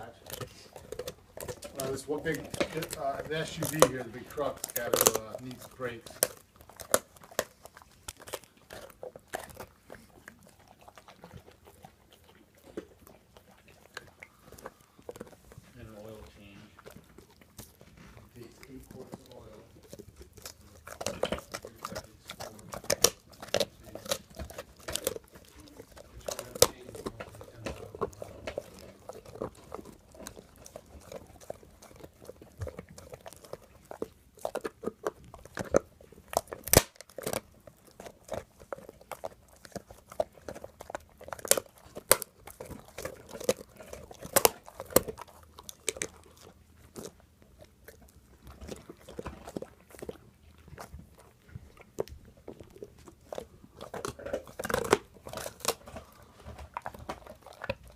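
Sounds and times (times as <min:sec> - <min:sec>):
dog crunching a bone: 0:00.0 - 0:57.9
wet chewing: 0:00.0 - 0:57.9.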